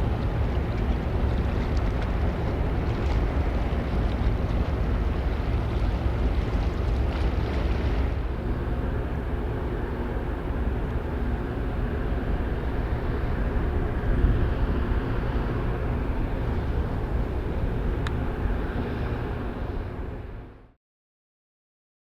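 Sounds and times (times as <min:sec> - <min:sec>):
ship engines low rumble: 0:00.0 - 0:20.8.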